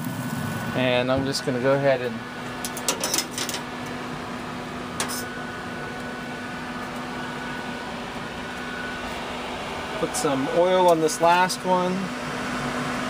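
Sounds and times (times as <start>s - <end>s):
grill fan humming: 0.0s - 13.0s.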